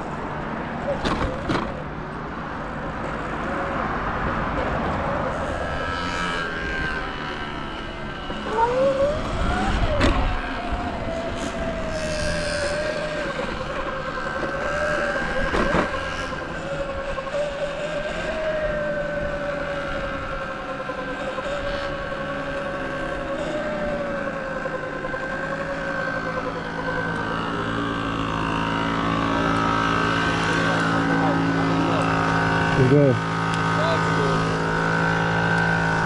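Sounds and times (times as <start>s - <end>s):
motorbike engine whine: 0.0s - 36.0s.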